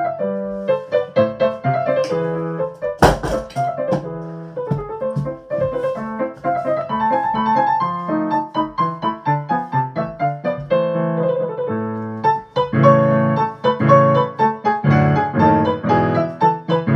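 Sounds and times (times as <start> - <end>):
piano music: 0.0 - 16.9.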